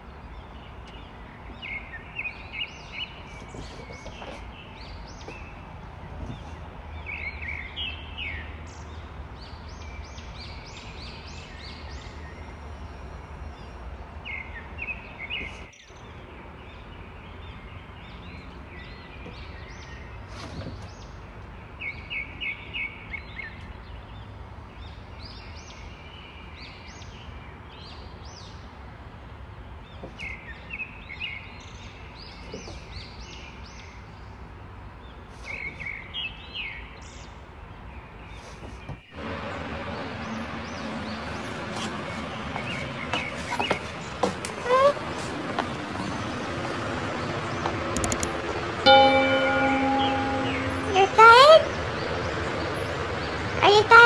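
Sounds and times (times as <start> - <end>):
small birds chirping: 0.0 - 28.7, 29.6 - 54.0.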